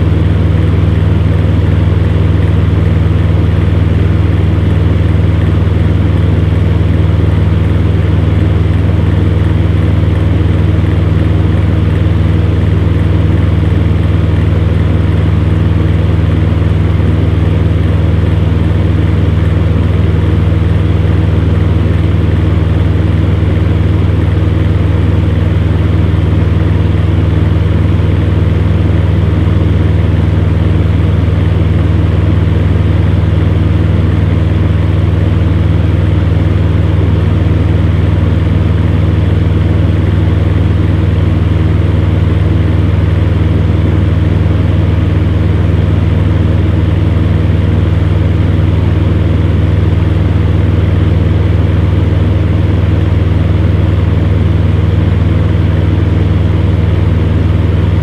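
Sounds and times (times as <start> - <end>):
fan heater humming: 0.0 - 58.0.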